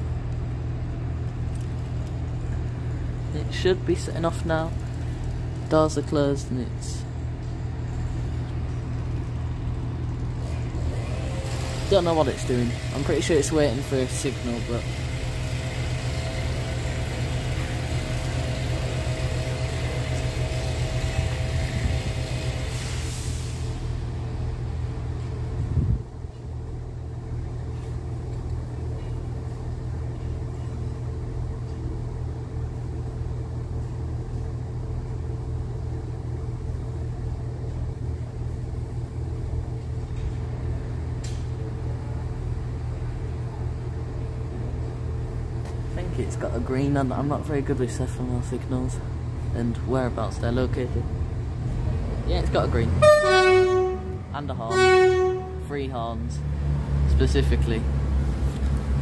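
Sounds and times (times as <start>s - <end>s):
diesel train engines idling: 0.0s - 59.0s.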